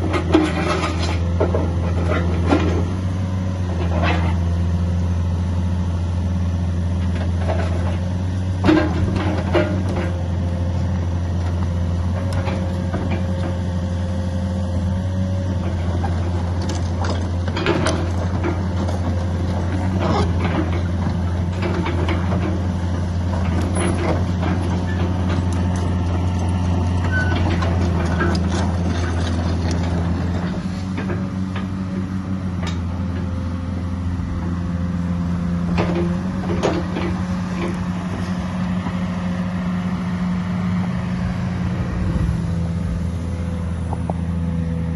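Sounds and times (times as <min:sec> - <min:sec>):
diesel excavator engine running: 0:00.0 - 0:44.9.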